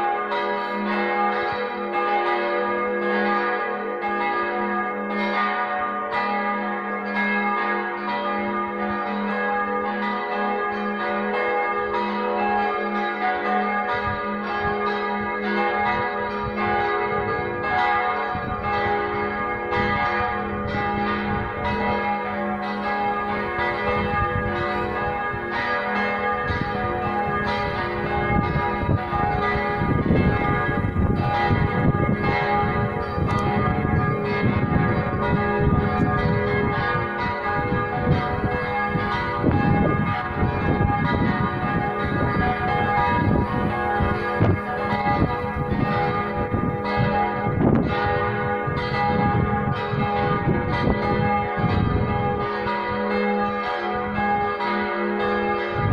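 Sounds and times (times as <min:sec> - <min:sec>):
church bells ringing: 0:00.0 - 0:55.9.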